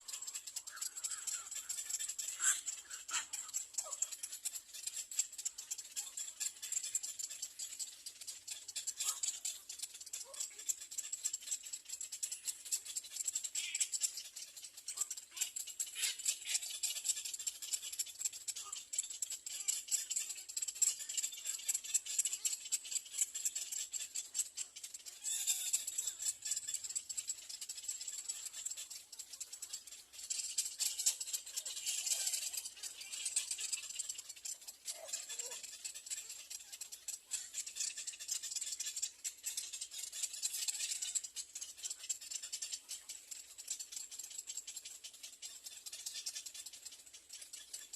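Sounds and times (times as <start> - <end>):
nestlings rattling chatter: 0.0 - 47.9.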